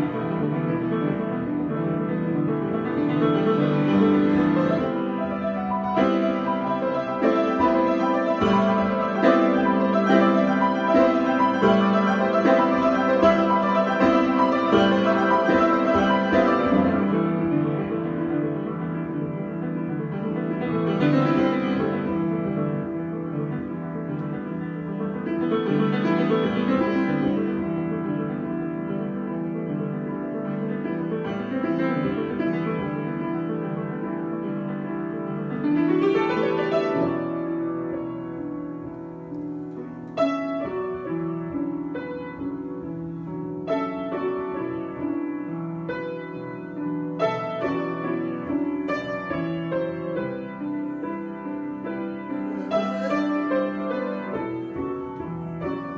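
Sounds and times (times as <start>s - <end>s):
solo piano chords: 0.0s - 55.9s.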